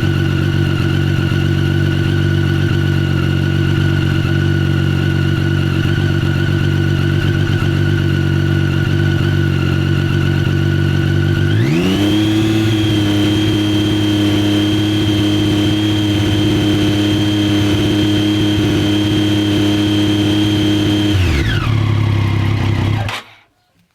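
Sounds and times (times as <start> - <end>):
motorcycle engine idling: 0.0 - 23.4
motorcycle engine revving: 0.0 - 23.4.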